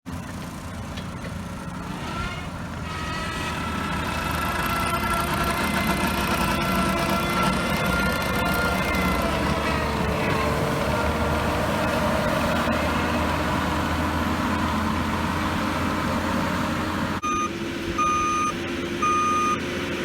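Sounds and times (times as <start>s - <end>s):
skid steer engine running: 0.1s - 20.0s.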